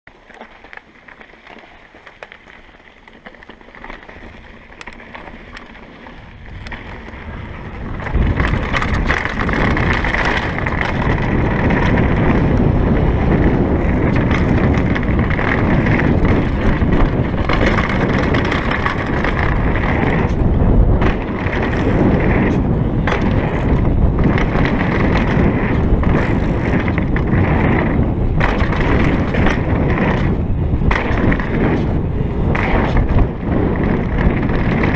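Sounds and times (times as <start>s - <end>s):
bike knocking and rattling: 0.1s - 34.9s
bike tyres rolling over dirt: 0.1s - 34.9s
wind on microphone: 5.4s - 34.9s.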